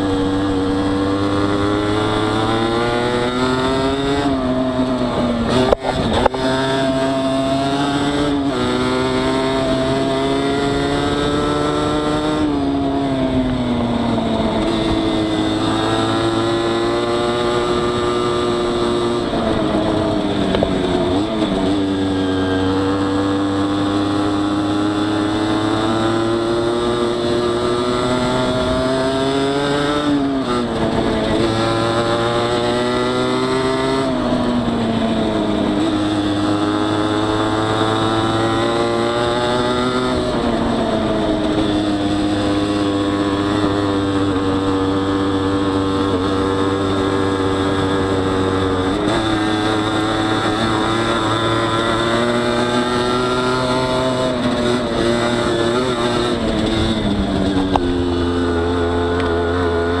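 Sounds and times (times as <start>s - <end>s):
two-stroke motorbike engine revving: 0.0s - 60.0s.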